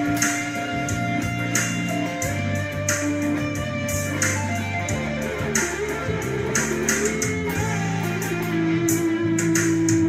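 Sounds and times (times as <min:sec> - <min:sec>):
fuzz electric guitar notes: 0:00.0 - 0:10.0.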